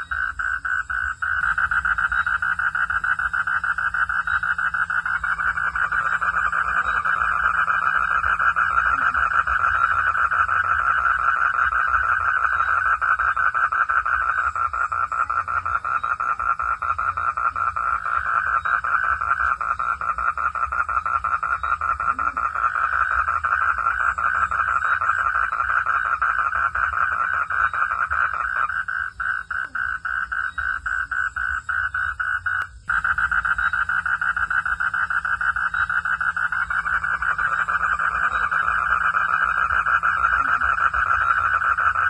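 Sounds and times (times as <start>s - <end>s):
crickets trilling: 0.0s - 42.0s
frogs calling: 0.0s - 42.0s.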